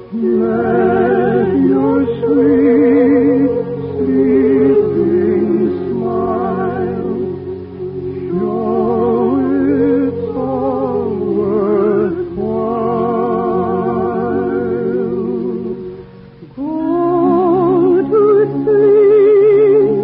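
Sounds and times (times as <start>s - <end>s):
soft orchestral accompaniment: 0.0s - 20.0s
voices singing a lullaby: 0.0s - 20.0s.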